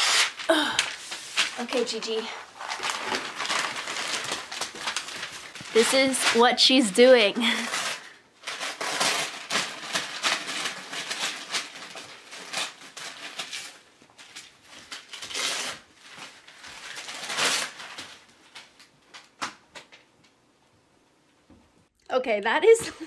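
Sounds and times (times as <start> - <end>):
wrapping paper crinkling and tearing: 0.0 - 20.0.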